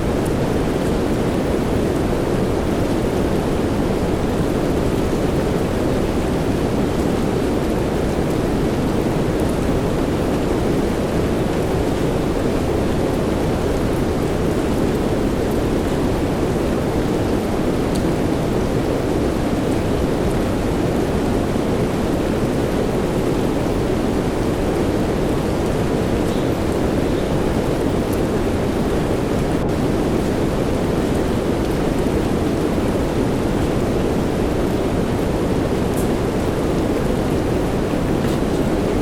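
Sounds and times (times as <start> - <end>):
soft rain: 0.0 - 39.0
white noise: 0.0 - 39.0.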